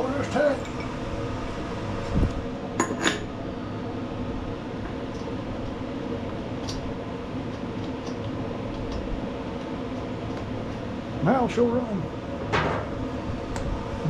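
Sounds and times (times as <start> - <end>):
steady fan-like hum: 0.0 - 14.0.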